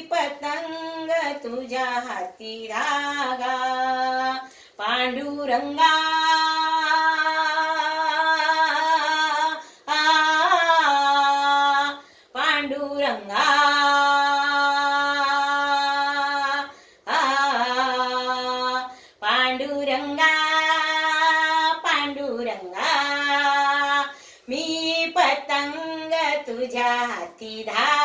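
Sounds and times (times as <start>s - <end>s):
elderly woman singing unaccompanied: 0.0s - 28.0s.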